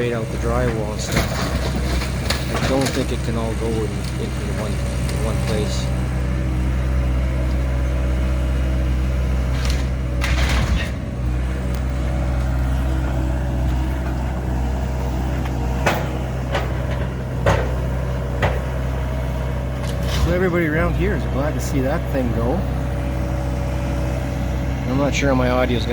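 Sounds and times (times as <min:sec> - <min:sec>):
excavator engine running: 0:00.0 - 0:25.9.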